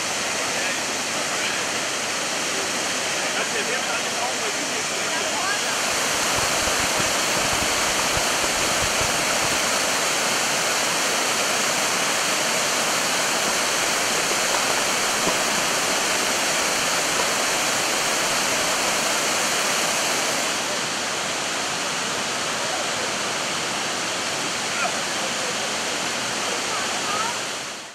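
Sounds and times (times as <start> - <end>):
waterfall pouring and splashing: 0.0 - 27.9.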